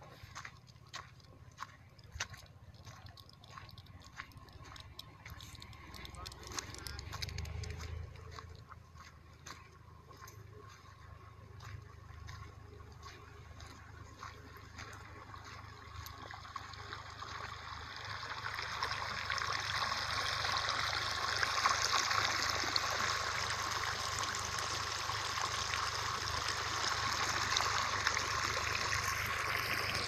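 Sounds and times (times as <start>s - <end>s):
water gushing from hose onto dirt: 1.8s - 8.6s, 11.3s - 30.0s.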